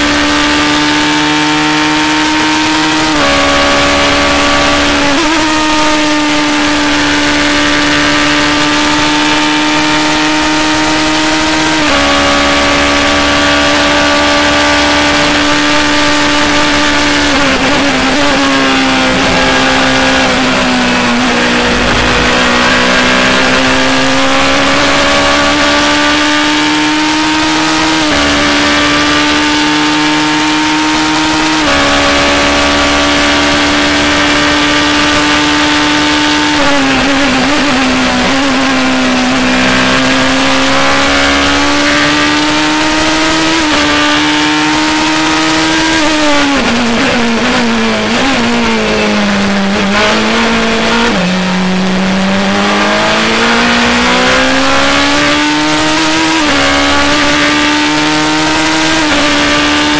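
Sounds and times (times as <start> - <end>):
race car engine revving through gears: 0.0 - 59.9.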